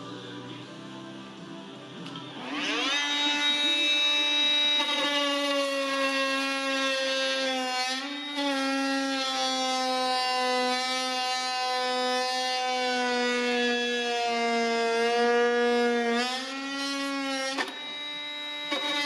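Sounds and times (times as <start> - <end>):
multitool cutting wood: 2.4 - 19.0.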